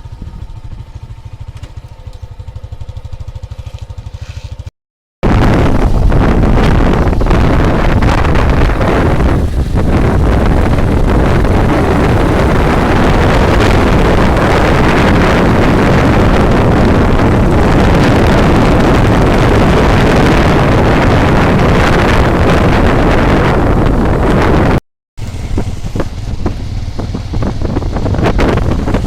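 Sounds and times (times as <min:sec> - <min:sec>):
wind buffeting microphone: 0:00.0 - 0:01.6, 0:05.2 - 0:29.0.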